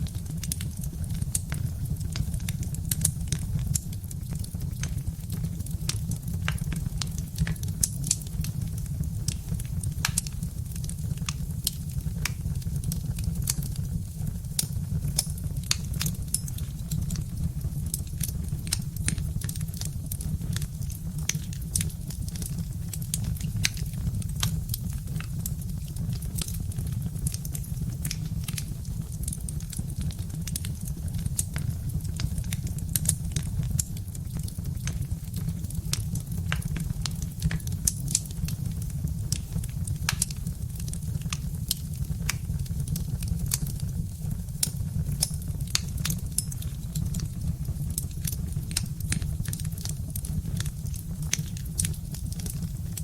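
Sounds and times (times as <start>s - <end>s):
fire pops and snaps: 0.0s - 53.0s
low steady rumble: 0.0s - 53.0s
wood fire crackling: 0.0s - 53.0s.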